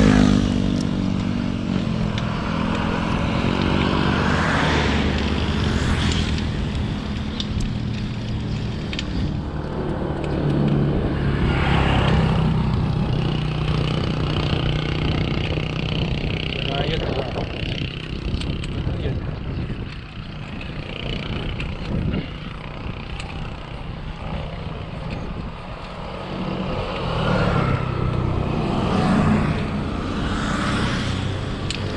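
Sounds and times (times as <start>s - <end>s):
vehicles passing on road: 0.0s - 31.9s.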